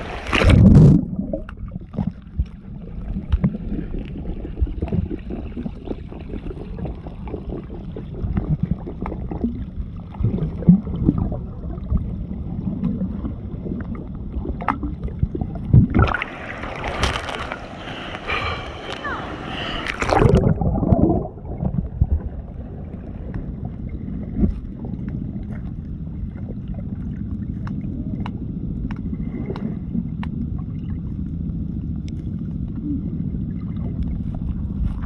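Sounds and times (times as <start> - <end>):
stream water sloshing and gurgling: 0.0 - 35.0.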